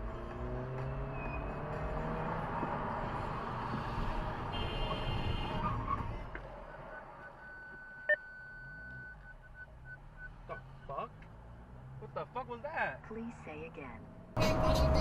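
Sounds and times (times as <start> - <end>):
car driving road noise: 0.0 - 15.0.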